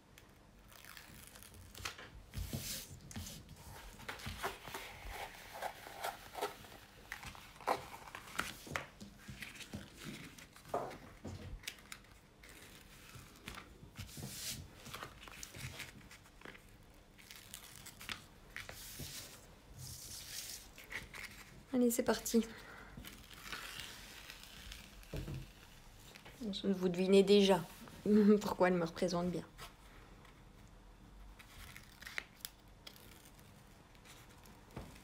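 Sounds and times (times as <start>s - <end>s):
wrapping crinkling: 0.0s - 26.5s, 31.3s - 35.0s.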